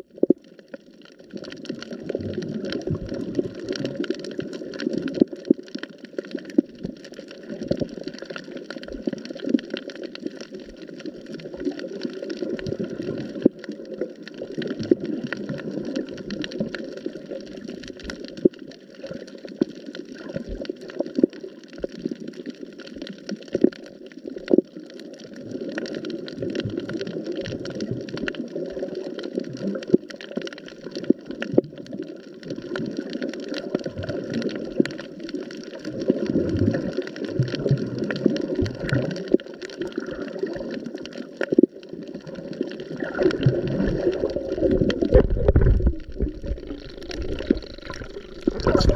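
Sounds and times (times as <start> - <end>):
muffled underwater rush of water: 0.0 - 48.9
sharp underwater clicks and crackles: 0.0 - 48.9.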